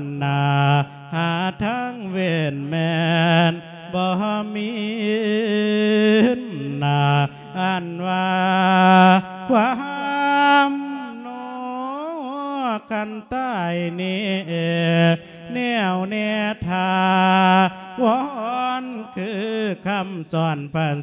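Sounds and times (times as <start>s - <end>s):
man chanting: 0.0s - 21.0s.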